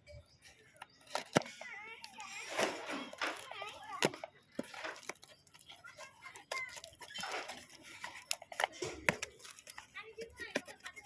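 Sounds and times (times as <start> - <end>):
faint voices: 0.4 - 11.0
packaging clicking and scraping: 0.4 - 11.0.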